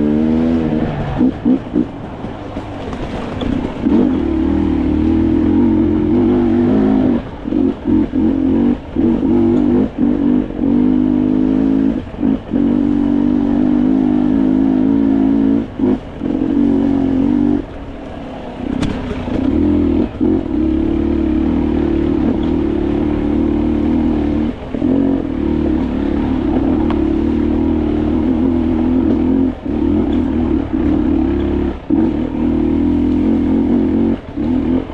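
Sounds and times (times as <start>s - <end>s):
dirt bike engine revving: 0.0s - 2.4s, 3.0s - 17.7s, 18.8s - 34.9s.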